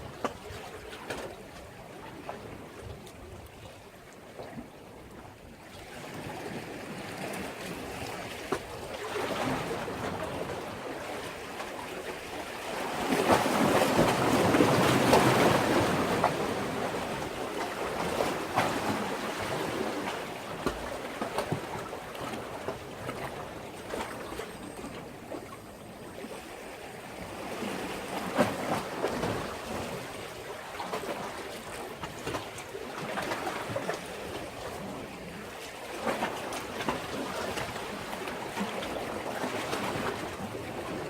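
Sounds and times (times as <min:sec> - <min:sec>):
sea waves against a breakwater: 0:00.0 - 0:41.0.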